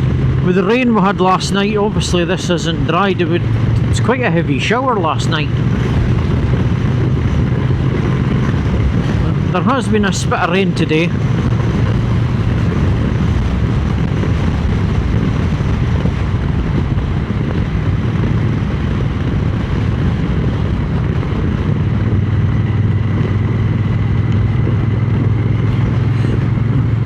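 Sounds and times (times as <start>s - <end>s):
motorcycle engine cruising: 0.0s - 27.0s
wind on microphone: 0.0s - 27.0s.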